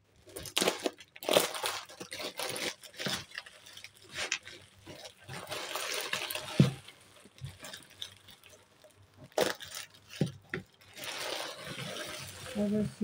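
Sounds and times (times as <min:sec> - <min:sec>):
plastic bag crinkling: 0:00.1 - 0:13.0.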